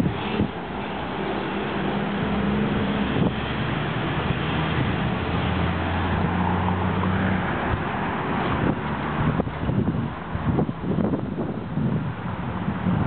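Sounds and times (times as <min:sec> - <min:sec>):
low engine hum: 0:00.0 - 0:13.0
wind rushing over microphone: 0:00.0 - 0:13.0.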